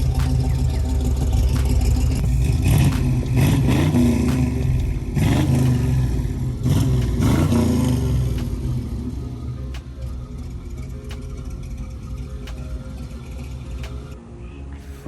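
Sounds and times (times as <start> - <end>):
vehicle engine revving: 0.0 - 14.2.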